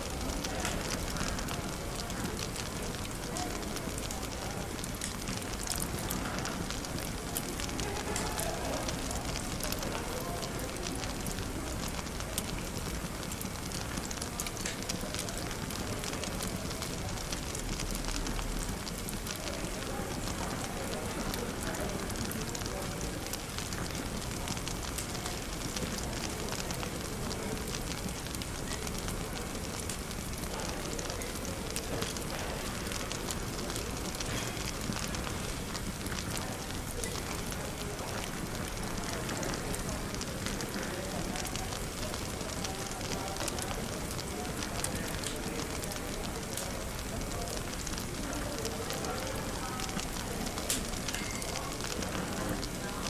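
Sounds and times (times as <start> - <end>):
indistinct chatter: 0.0 - 53.0
wood fire crackling: 0.0 - 53.0.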